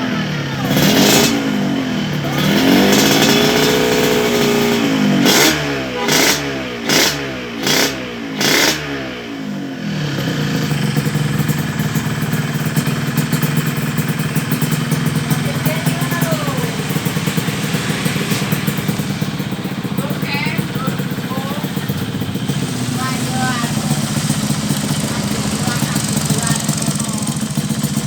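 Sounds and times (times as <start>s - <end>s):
motorcycle engine revving and idling: 0.0s - 28.0s.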